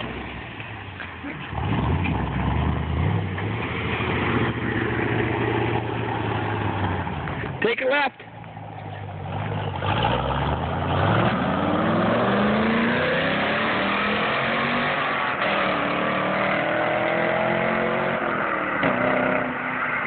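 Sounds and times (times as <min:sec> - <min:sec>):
car engine accelerating: 0:00.0 - 0:07.6, 0:08.2 - 0:20.0.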